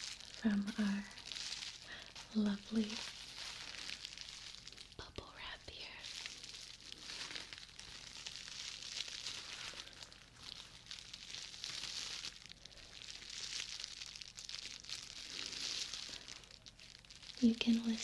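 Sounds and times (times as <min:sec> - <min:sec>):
bubble wrap crinkling: 0:00.0 - 0:18.0.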